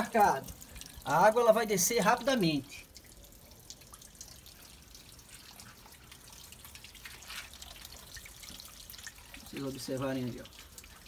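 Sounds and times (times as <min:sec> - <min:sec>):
water dripping and trickling: 0:00.0 - 0:11.0.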